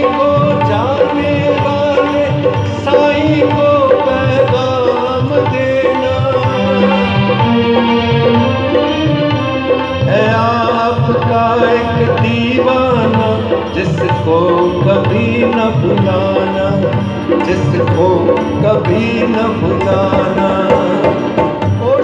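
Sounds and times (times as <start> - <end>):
devotional music played live: 0.0 - 22.0
hand drums rhythm: 0.0 - 22.0
keyboard melody: 0.0 - 22.0
violin melody: 0.0 - 22.0.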